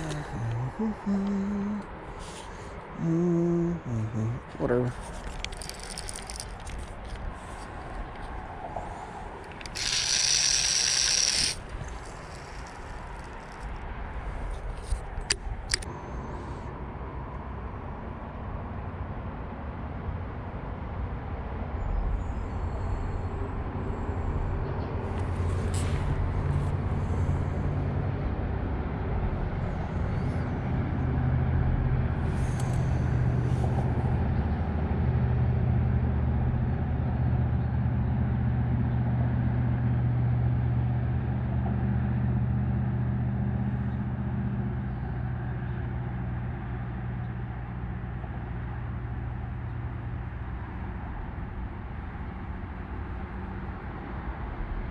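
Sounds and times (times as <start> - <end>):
low engine drone: 0.0 - 20.5, 22.1 - 54.9.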